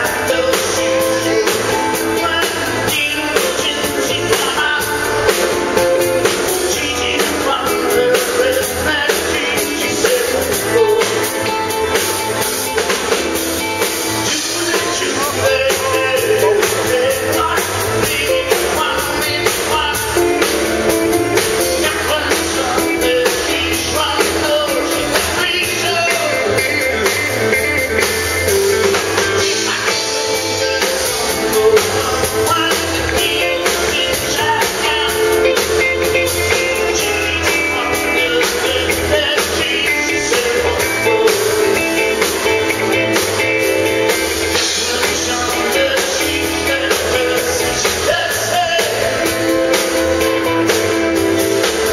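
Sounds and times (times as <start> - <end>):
drum kit: 0.0 - 51.9
man singing: 0.0 - 51.9.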